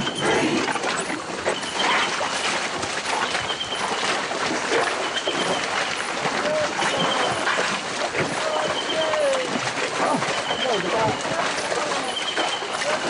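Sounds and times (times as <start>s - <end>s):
elephant feet squelching in mud: 0.0s - 13.0s.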